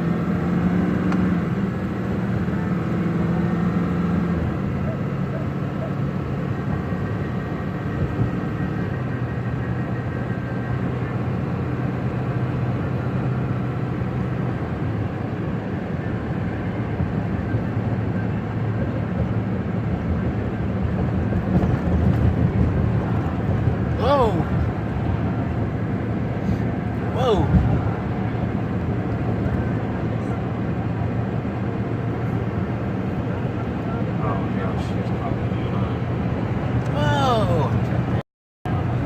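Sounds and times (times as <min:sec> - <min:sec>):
road noise: 0:00.0 - 0:39.0
vehicle engine hum: 0:00.0 - 0:39.0.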